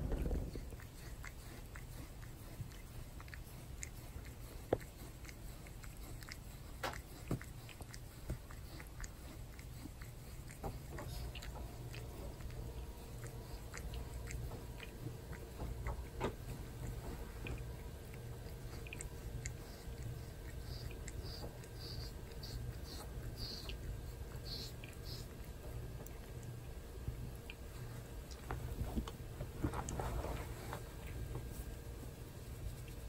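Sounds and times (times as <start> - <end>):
cat licking skin: 0.1 - 33.0.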